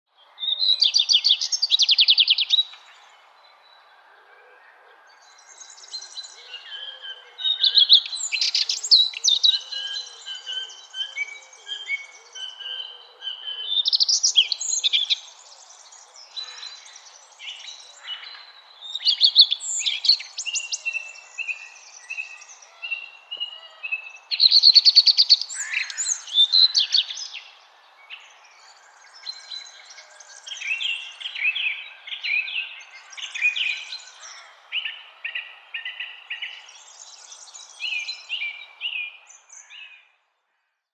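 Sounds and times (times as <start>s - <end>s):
songbirds singing and chirping: 0.1s - 40.9s.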